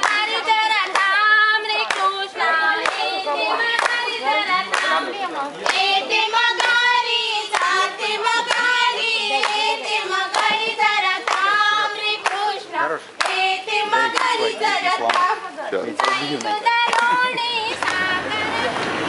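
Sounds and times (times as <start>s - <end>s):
hands clapping: 0.0s - 12.6s, 13.2s - 18.2s
women singing together: 0.0s - 19.0s.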